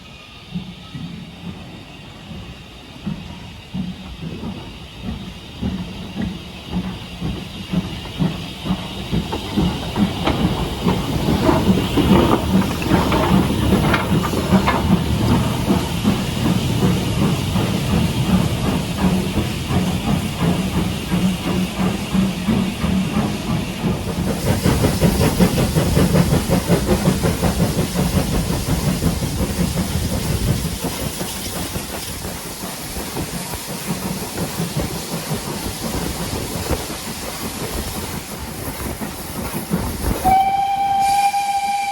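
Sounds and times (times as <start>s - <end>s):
steam hissing: 0.0s - 41.9s
steam locomotive exhaust beats: 0.0s - 41.9s.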